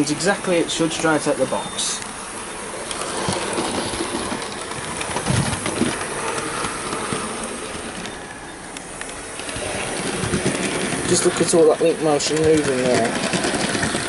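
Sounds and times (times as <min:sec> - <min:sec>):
model train running: 0:00.0 - 0:14.0
wheels clicking on track: 0:00.0 - 0:14.0.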